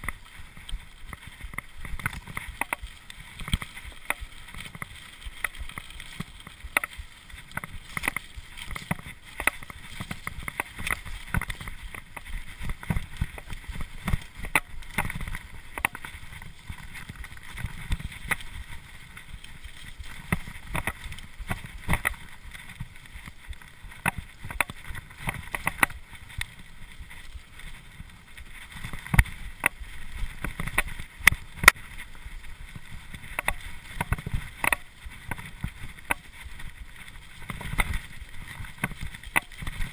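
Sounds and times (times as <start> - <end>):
bike rattling and knocking: 0.0 - 39.9
bike tyres rumbling over trail: 0.0 - 39.9.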